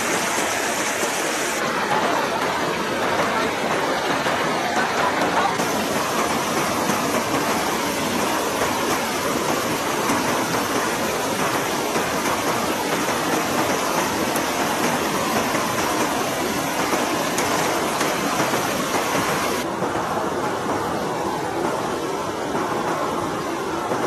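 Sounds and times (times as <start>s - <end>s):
river water rushing over rocks: 0.0s - 19.7s.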